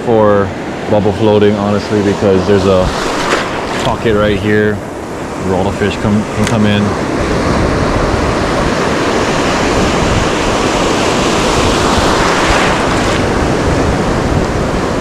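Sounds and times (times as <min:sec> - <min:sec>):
ocean surf on rocks: 0:00.0 - 0:15.0
wind rumbling on microphone: 0:00.0 - 0:15.0.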